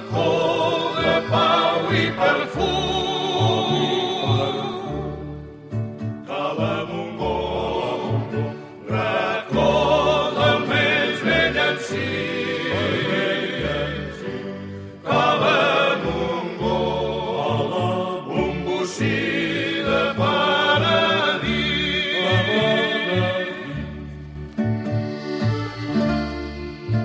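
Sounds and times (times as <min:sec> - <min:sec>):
vocal group singing habanera: 0:00.0 - 0:05.3, 0:06.2 - 0:24.1.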